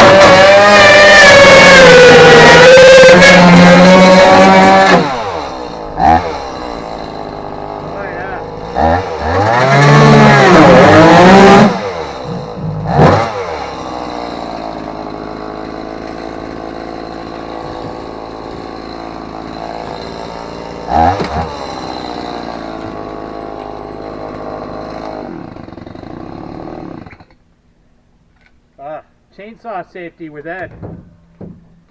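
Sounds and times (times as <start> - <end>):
chainsaw engine revving and idling: 0.0 - 27.3.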